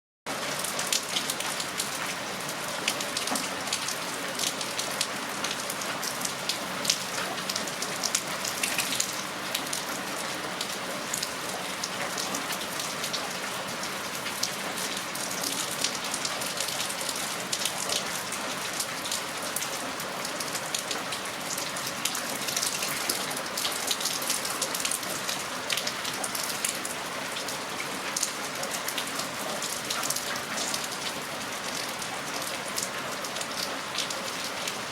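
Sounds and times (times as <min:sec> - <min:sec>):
rain falling: 0:00.3 - 0:34.9.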